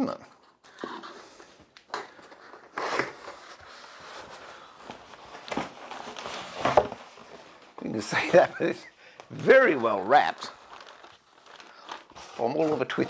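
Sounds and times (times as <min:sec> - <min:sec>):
paper wrapping rustling: 0:01.9 - 0:13.0.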